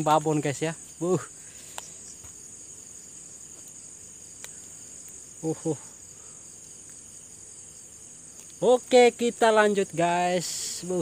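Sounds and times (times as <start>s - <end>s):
chorus of night insects: 0.0s - 11.0s.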